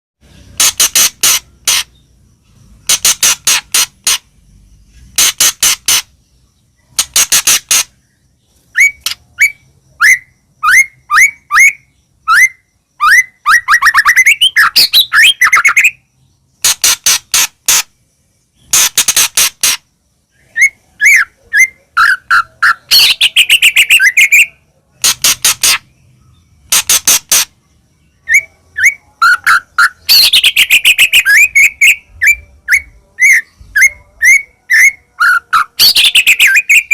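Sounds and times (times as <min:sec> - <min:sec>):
bird singing loudly: 0:05.2 - 0:17.3, 0:18.6 - 0:36.9.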